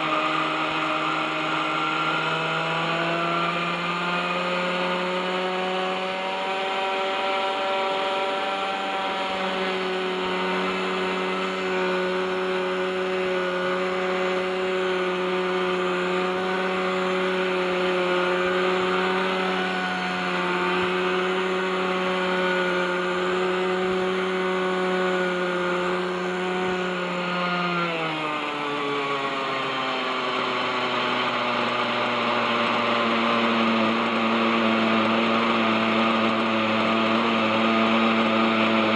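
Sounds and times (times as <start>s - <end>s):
model helicopter engine running: 0.0s - 38.9s.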